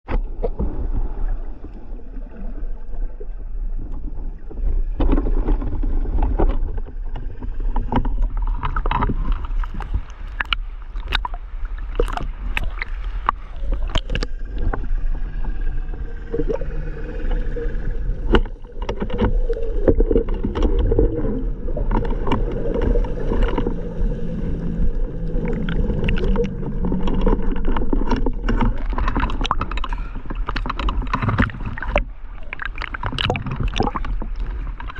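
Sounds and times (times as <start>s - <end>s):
water rumbling and gurgling: 0.0s - 34.9s.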